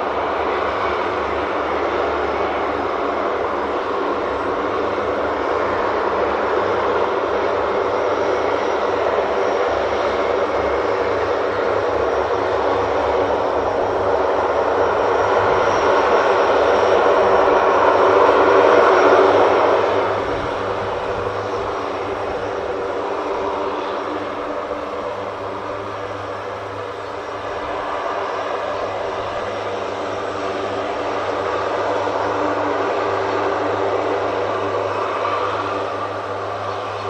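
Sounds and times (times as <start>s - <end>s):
aircraft engines running: 0.0s - 37.0s.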